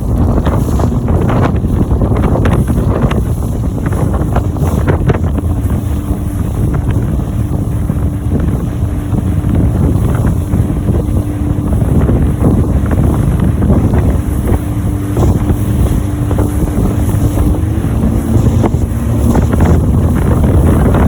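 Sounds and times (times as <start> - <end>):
hull knocking on water: 0.0 - 21.0
motorboat engine running: 0.0 - 21.0
wind buffeting microphone: 0.0 - 21.0.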